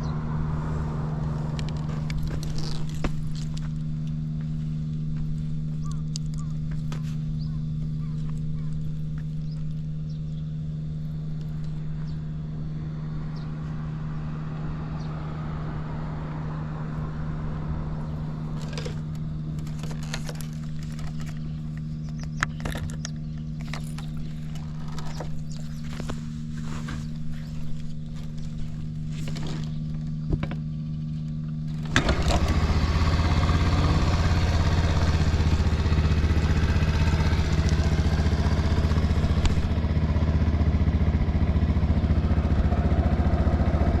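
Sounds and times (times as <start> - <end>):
small engine idling: 0.0 - 44.0.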